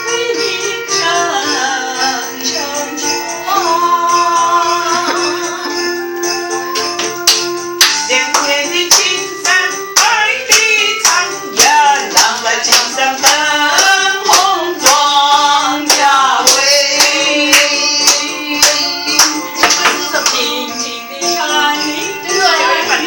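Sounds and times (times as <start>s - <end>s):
woman singing: 0.0s - 6.0s, 8.0s - 23.0s
keyboard accompaniment: 0.0s - 23.0s.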